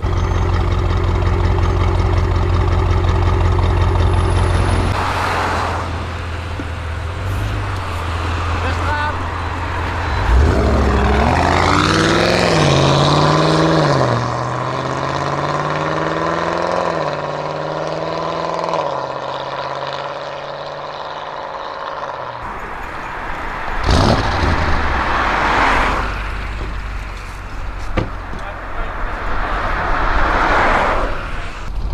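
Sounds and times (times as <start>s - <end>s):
car engine accelerating hard: 0.0s - 31.9s.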